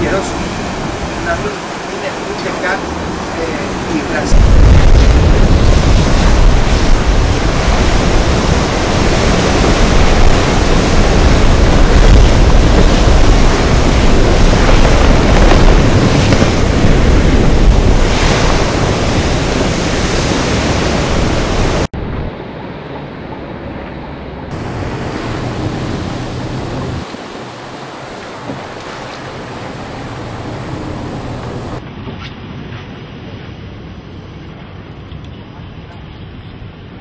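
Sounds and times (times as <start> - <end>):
ocean surf: 0.0 - 35.8
wind buffeting microphone: 0.0 - 37.0.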